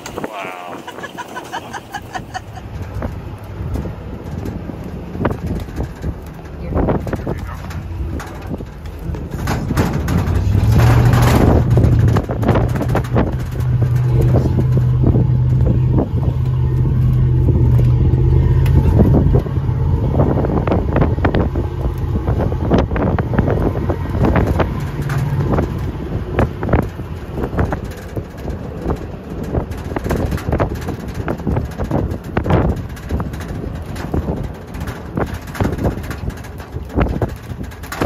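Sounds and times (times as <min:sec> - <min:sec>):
truck engine running: 0:00.0 - 0:38.0
vehicle body knocking and rattling: 0:00.0 - 0:38.0
wind on microphone: 0:00.0 - 0:38.0.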